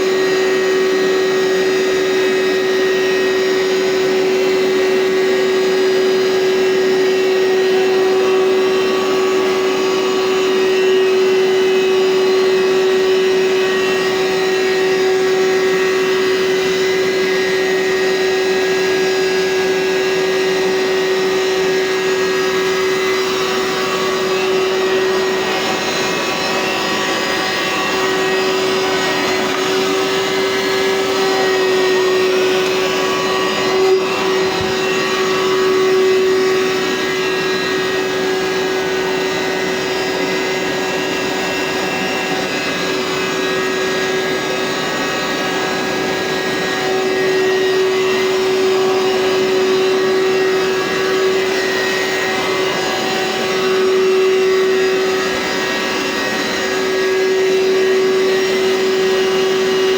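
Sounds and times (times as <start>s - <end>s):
carpet cleaner running: 0.0s - 59.9s.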